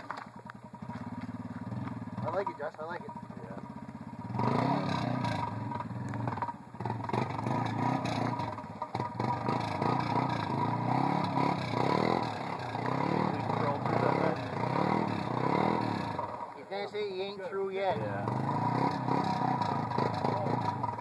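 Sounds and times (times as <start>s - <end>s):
atv engine revving: 0.0s - 21.0s.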